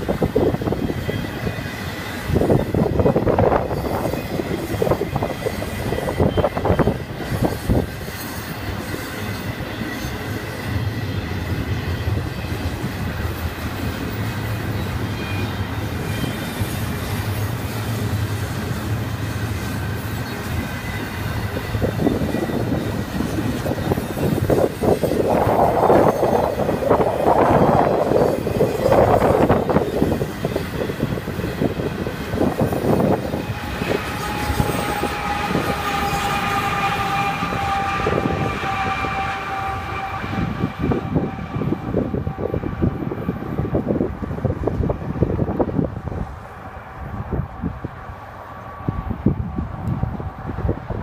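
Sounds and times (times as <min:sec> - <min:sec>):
train clattering: 0:00.0 - 0:51.0
train wheels rumbling on rails: 0:00.0 - 0:51.0.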